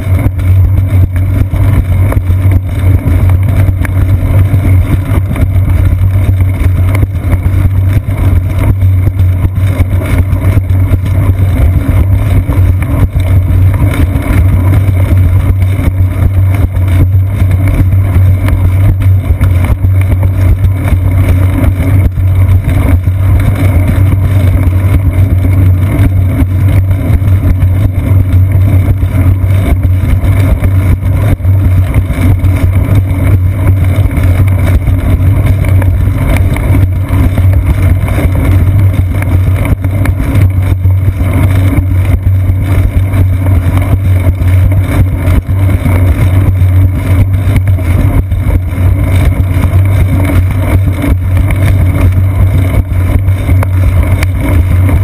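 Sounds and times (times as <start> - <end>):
bicycle road vibration: 0.0 - 55.0
wind rumble: 0.0 - 55.0.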